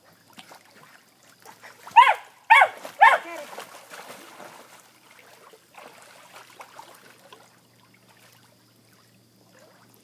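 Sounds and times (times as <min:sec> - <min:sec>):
water lapping: 0:00.0 - 0:10.0
dog splashing in water: 0:00.3 - 0:08.5.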